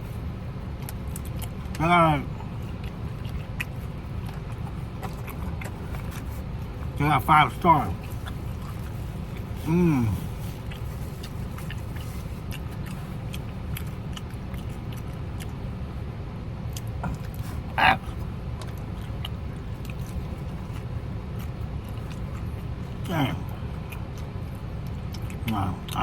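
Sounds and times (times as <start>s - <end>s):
low outdoor rumble: 0.0s - 26.0s
person chewing crispy chicken: 0.7s - 7.0s, 7.9s - 15.9s, 16.7s - 26.0s.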